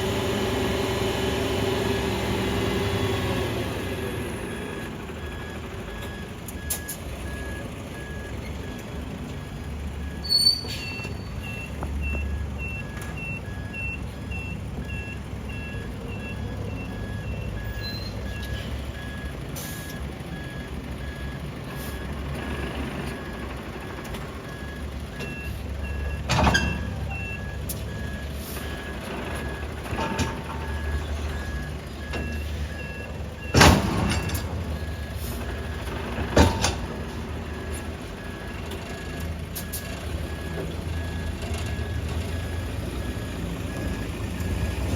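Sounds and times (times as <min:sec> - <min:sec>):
truck engine rumbling: 0:00.0 - 0:44.9
reversing alarm beeping: 0:04.4 - 0:44.9.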